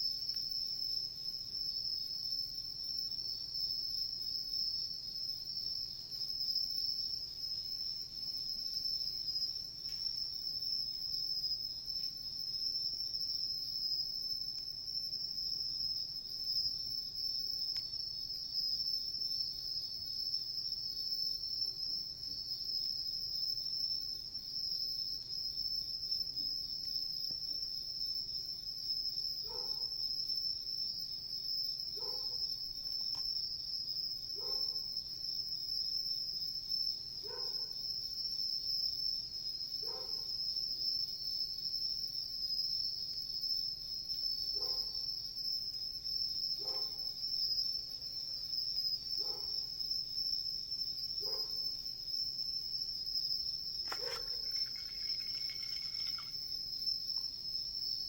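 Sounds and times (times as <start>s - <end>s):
insect chorus chirring: 0.0s - 58.0s.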